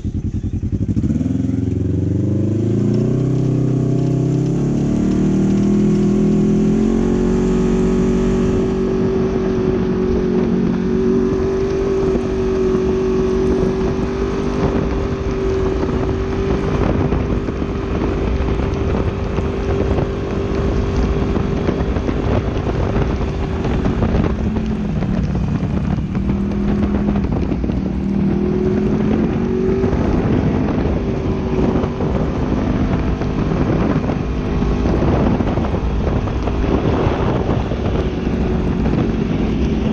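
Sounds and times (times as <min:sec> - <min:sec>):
vehicle engine running at speed: 0:00.0 - 0:39.9.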